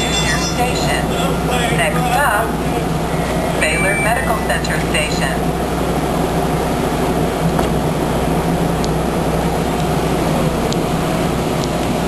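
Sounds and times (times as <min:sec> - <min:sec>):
light rail electrical hum: 0:00.0 - 0:12.0.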